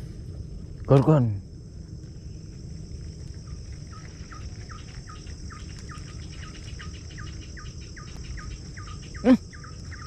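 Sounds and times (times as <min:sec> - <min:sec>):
high drone of insects: 0:00.0 - 0:10.0.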